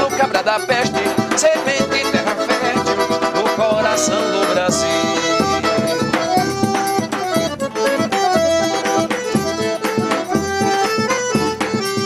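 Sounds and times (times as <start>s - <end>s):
accordion melody: 0.0s - 12.0s
steady drum beat: 0.0s - 12.0s.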